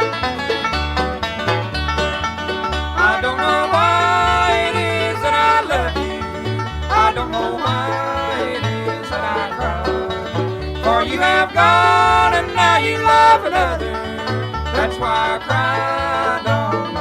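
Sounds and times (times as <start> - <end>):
banjo: 0.0 - 17.0
guitar: 0.0 - 17.0
two-note bass line: 0.0 - 17.0.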